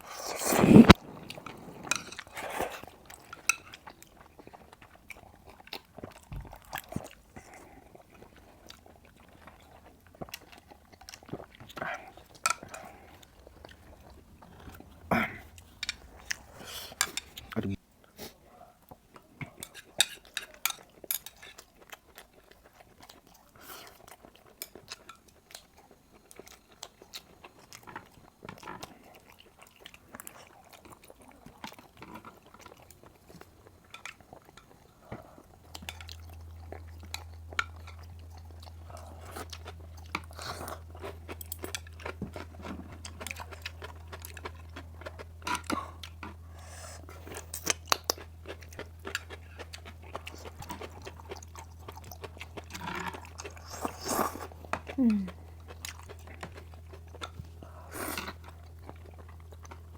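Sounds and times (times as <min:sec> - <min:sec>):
low steady hum: 0:00.0 - 0:17.8, 0:24.8 - 0:59.9
person chewing food: 0:00.0 - 0:17.8, 0:18.8 - 0:59.9.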